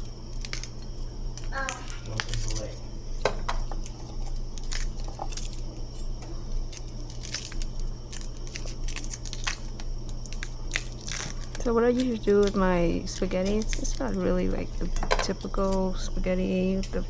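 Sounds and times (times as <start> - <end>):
food and utensils clicking: 0.0 - 17.0
steady low hum: 0.0 - 17.0.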